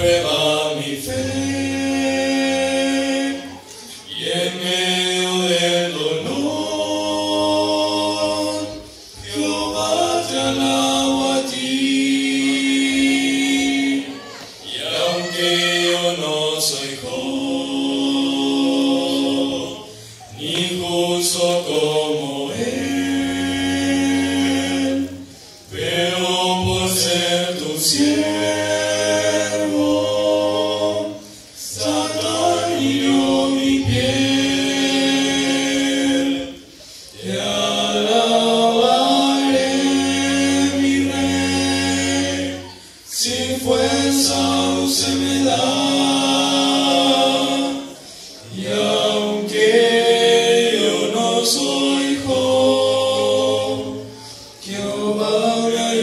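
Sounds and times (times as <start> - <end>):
male vocal quartet singing a cappella: 0.0 - 56.0.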